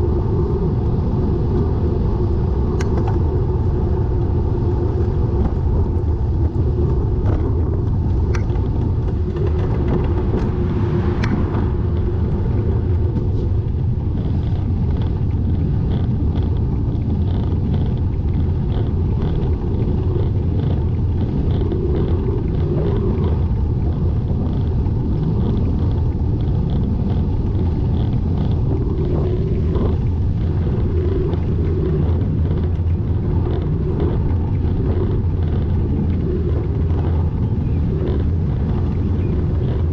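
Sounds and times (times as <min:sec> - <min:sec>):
wind and road noise: 0:00.0 - 0:39.9
faint ticking: 0:02.7 - 0:39.9.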